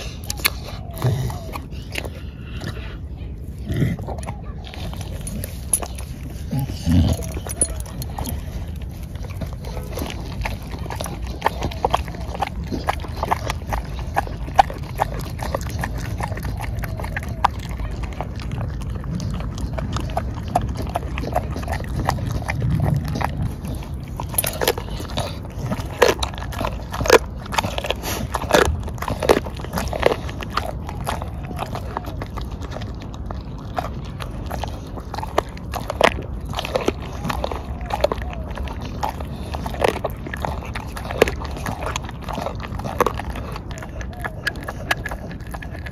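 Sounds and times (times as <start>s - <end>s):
dog chewing and crunching bones: 0.0s - 45.9s.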